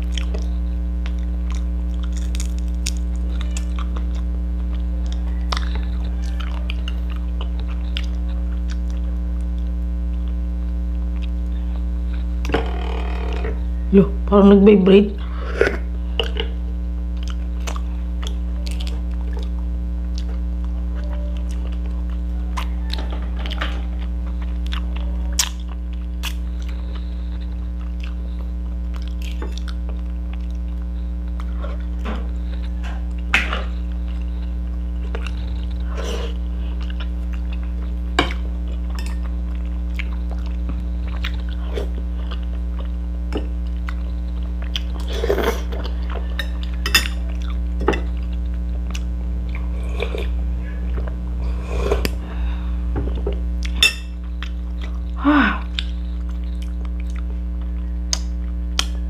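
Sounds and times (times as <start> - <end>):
person chewing: 0.0 - 10.4, 11.0 - 12.5, 17.2 - 59.0
steady electrical hum: 0.0 - 59.0.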